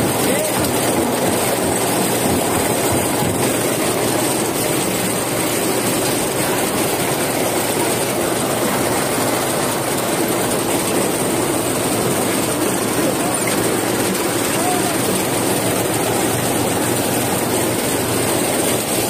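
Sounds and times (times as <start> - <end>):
potato grader machine running: 0.0 - 19.0
tractor engine running: 0.0 - 19.0.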